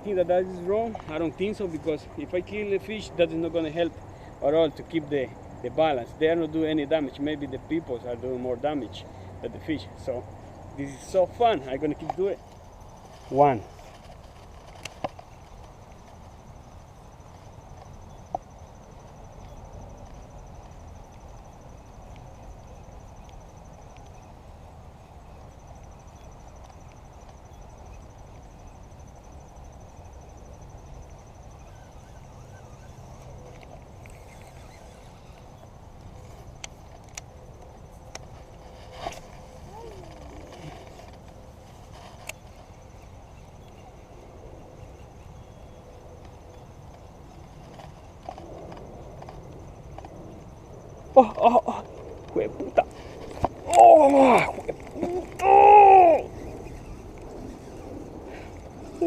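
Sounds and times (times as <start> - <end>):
insect trilling: 0.0 - 59.0.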